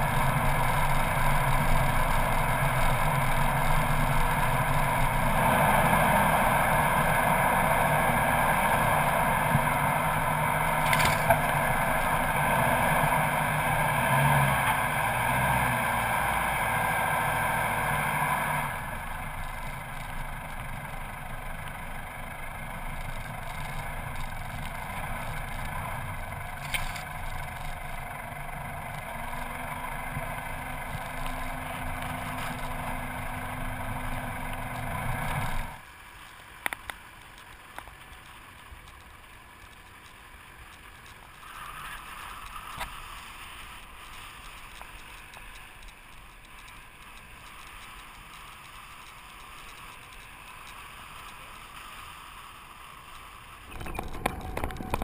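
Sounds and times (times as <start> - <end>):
vehicle engine driving: 0.0 - 55.0.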